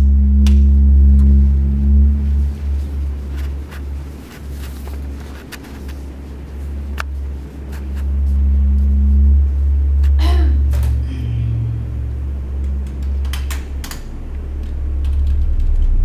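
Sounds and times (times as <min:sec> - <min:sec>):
hum: 0:00.0 - 0:16.0
low droning suspense music: 0:00.0 - 0:16.0.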